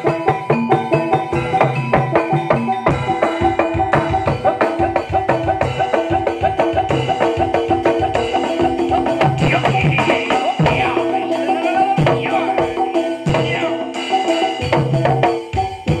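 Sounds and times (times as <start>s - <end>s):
gamelan music: 0.0s - 16.0s
higher wavering melodic line: 0.0s - 16.0s.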